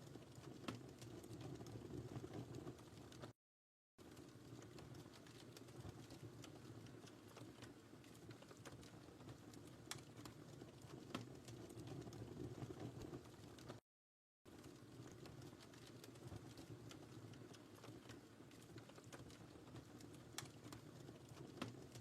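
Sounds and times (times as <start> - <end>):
wood fire crackling: 0.0 - 3.3, 4.0 - 13.8, 14.5 - 22.0.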